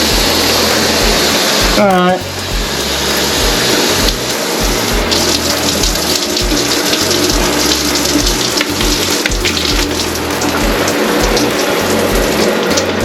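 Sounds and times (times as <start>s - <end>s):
low regular beat: 0.0s - 13.0s
shower head spraying water: 0.0s - 13.0s.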